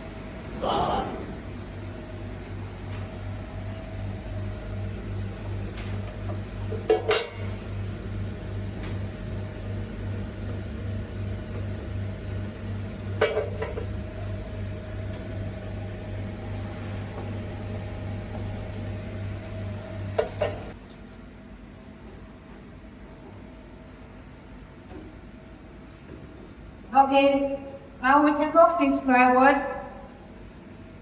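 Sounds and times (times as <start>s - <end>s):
low pulsing machine hum: 0.0s - 31.0s.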